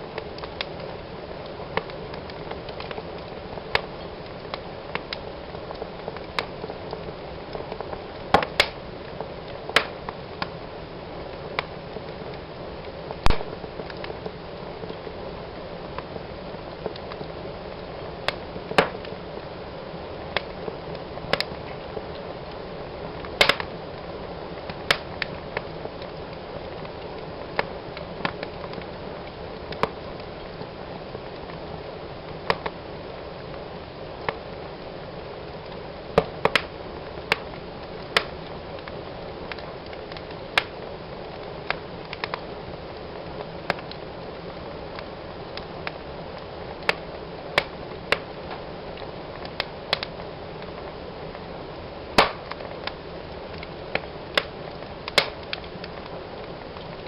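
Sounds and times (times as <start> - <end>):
flames hissing: 0.0 - 57.0
logs crackling and popping: 0.0 - 57.0.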